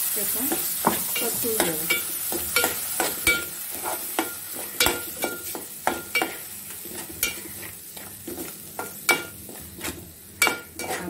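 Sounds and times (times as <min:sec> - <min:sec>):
soft sizzle: 0:00.0 - 0:11.0
metal spatula scraping a pot: 0:00.5 - 0:11.0.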